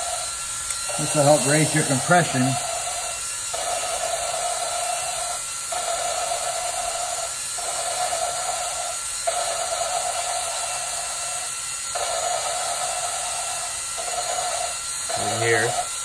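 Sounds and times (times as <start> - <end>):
drill whining: 0.0 - 16.0.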